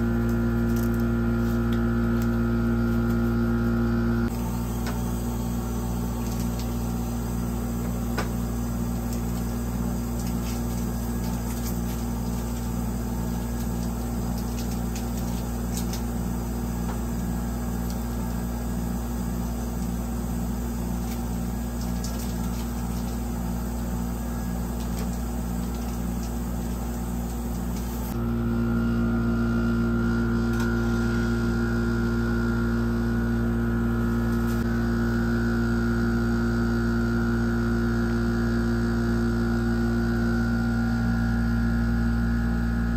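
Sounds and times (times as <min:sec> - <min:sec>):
electrical hum of machine: 0:00.0 - 0:42.9.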